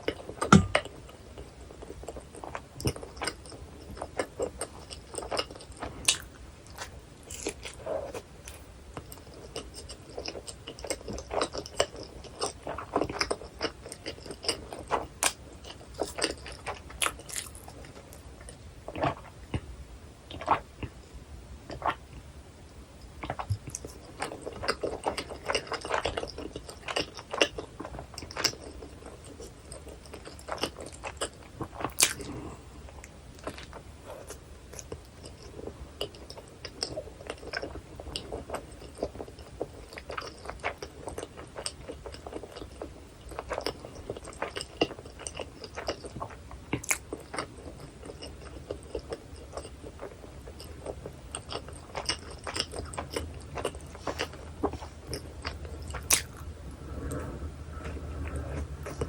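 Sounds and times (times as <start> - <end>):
wet chewing and biting: 0.0 - 19.7, 23.2 - 59.0.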